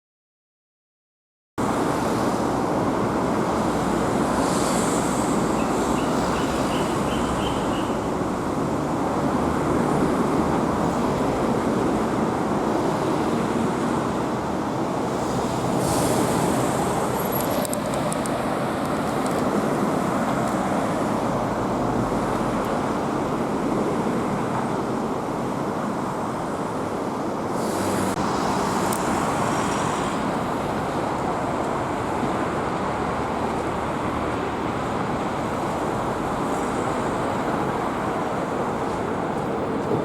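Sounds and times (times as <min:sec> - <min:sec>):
road traffic noise: 0:01.6 - 0:40.0.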